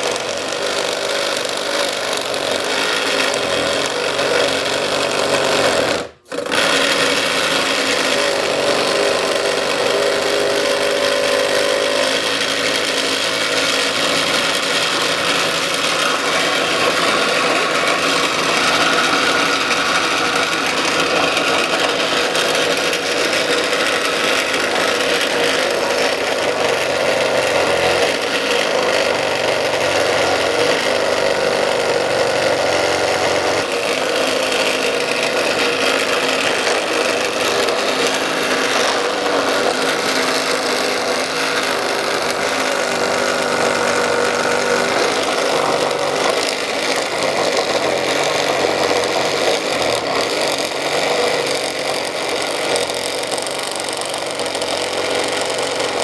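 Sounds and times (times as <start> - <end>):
scroll saw cutting wood: 0.0 - 56.0.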